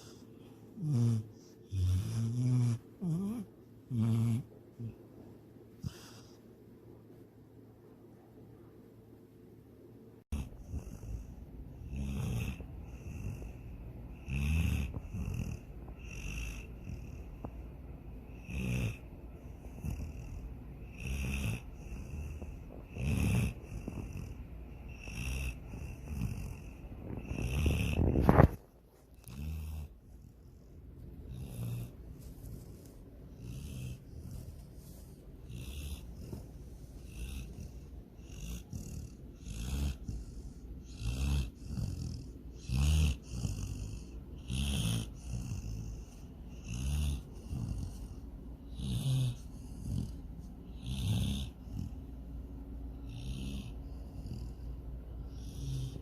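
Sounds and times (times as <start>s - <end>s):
dog snoring: 0.0s - 5.0s, 5.8s - 6.4s, 10.3s - 56.0s.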